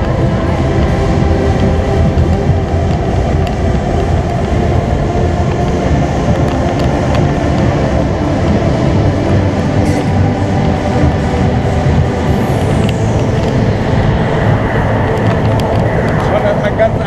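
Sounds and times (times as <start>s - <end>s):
roller coaster rolling rumble: 0.0s - 17.0s.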